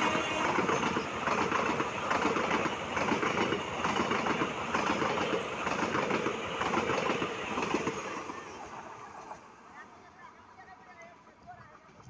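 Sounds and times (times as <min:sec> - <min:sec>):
train passing with rattling wheels: 0:00.0 - 0:12.0.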